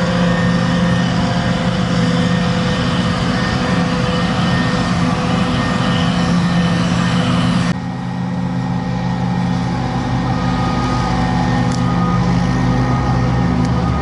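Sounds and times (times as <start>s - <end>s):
diesel farm machinery chopping: 0.0s - 14.0s.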